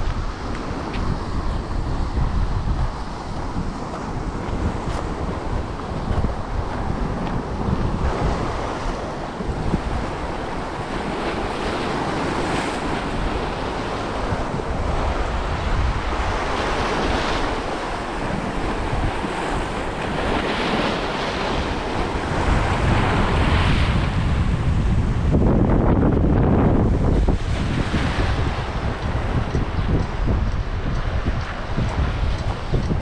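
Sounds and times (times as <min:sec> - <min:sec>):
sea waves breaking on rocks: 0:00.0 - 0:33.0
wind rumbling on microphone: 0:00.0 - 0:33.0.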